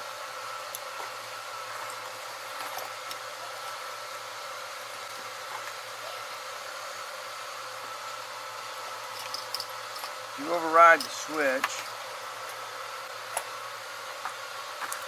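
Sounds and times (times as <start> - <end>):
faint high accessory whine: 0.0 - 15.0.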